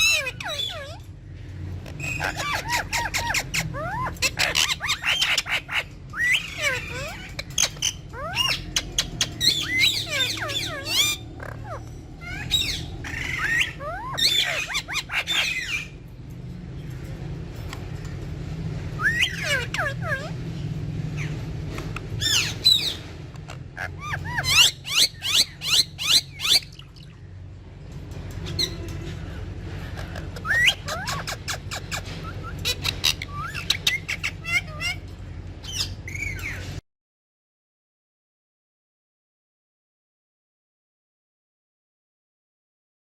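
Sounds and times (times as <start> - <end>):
parakeets chirping and squawking: 0.0 - 36.8
steady low hum: 0.0 - 36.8.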